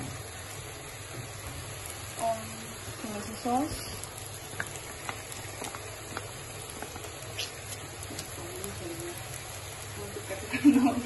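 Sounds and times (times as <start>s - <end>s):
cooking hiss: 0.0s - 11.0s.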